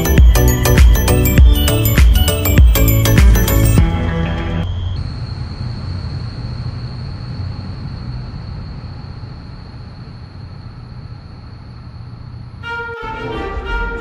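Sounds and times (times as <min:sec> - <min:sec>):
diesel train rumble: 0:00.0 - 0:14.0.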